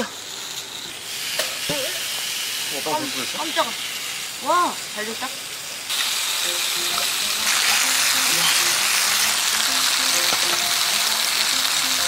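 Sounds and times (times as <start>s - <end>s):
bacon and eggs sizzling: 0.0s - 12.0s.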